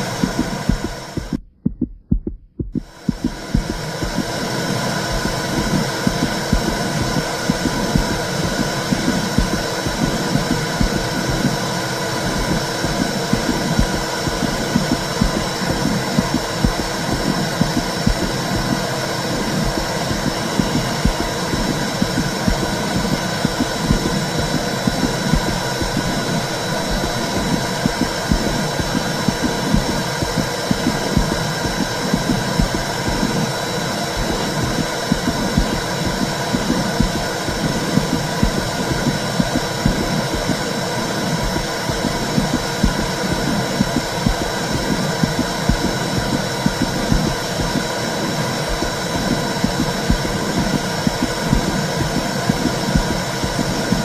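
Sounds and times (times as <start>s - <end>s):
low pulsing throb: 0.0s - 54.0s
steady whooshing noise: 0.0s - 54.0s.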